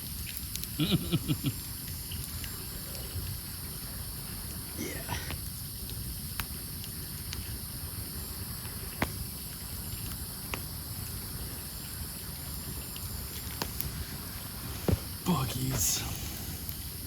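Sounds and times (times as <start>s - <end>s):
campfire crackling and popping: 0.0s - 17.0s
night insects droning: 0.0s - 17.0s.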